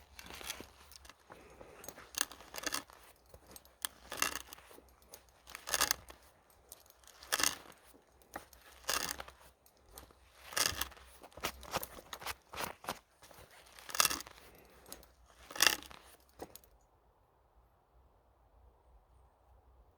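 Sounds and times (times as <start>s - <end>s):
hand tool scraping wood: 0.0s - 16.6s.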